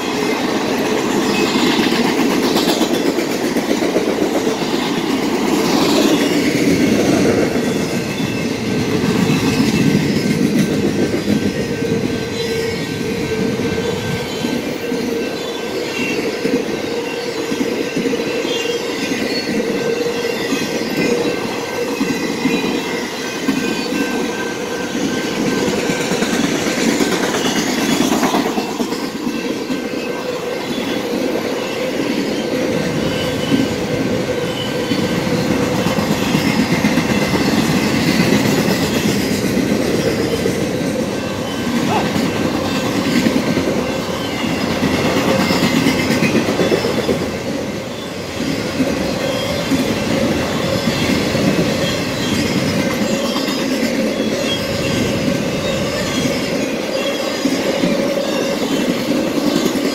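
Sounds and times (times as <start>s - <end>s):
freight train rumble and clatter: 0.0s - 59.9s.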